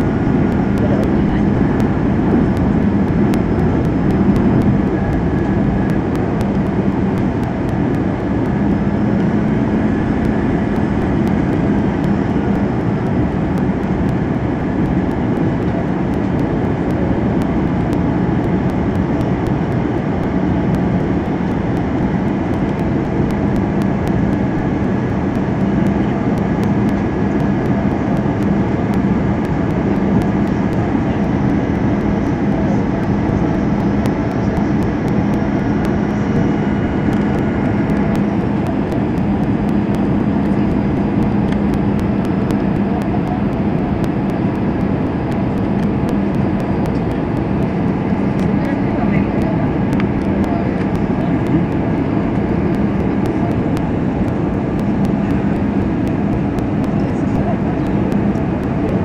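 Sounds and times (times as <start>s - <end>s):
jet engines roaring in cabin: 0.0s - 59.0s
low hum: 0.0s - 59.0s.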